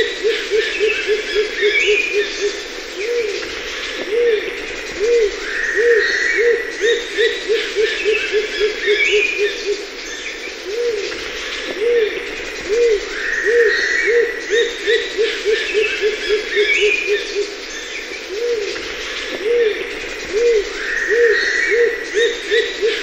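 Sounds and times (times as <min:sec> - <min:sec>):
dove low hooting notes: 0:00.0 - 0:23.0
other birds singing: 0:00.0 - 0:23.0.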